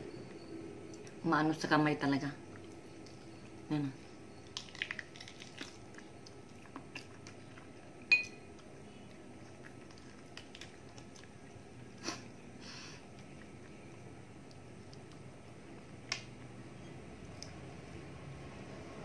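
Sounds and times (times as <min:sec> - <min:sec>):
eating with mouth clicks and smacks: 0:02.4 - 0:18.1.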